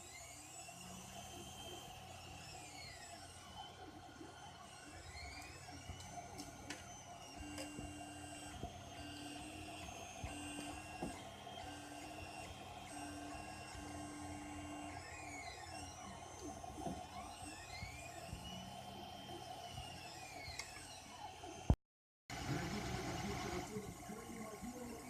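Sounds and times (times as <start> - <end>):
stepper motors whining: 0.0 - 21.8.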